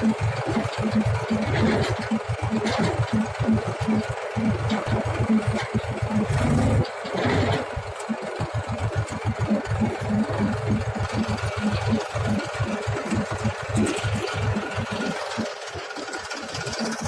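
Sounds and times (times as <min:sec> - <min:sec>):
tractor diesel engine throbbing: 0:00.0 - 0:17.0.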